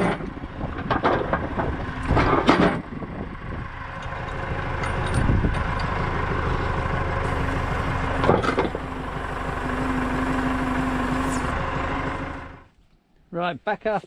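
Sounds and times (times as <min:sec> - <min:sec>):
tractor engine running: 0:00.0 - 0:12.8.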